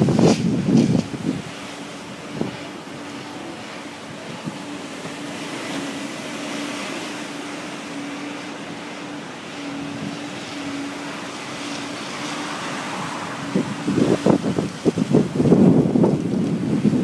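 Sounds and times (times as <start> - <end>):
breaking surf: 0.0 - 17.0
engine drone: 0.0 - 17.0
wind buffeting microphone: 0.0 - 17.0.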